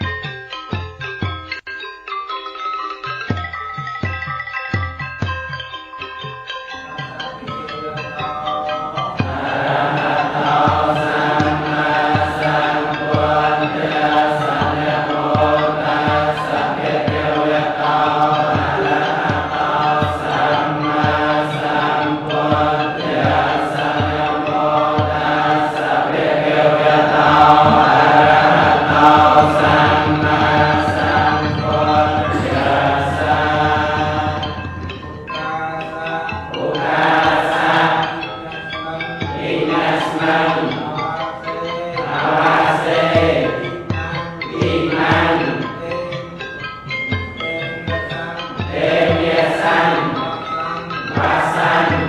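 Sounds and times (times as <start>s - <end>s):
mallet-struck ringing notes: 0.0s - 52.0s
group of voices chanting: 6.9s - 45.8s, 48.6s - 50.4s, 51.1s - 52.0s.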